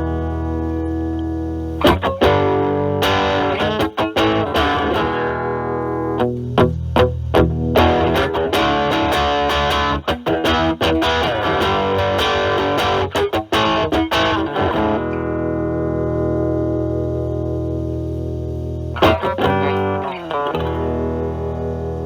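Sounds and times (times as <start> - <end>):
distorted electric guitar: 0.0 - 22.0.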